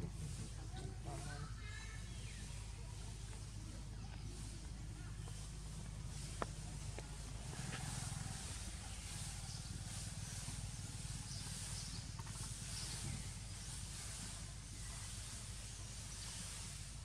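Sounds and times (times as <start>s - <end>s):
hiss: 0.0s - 17.0s.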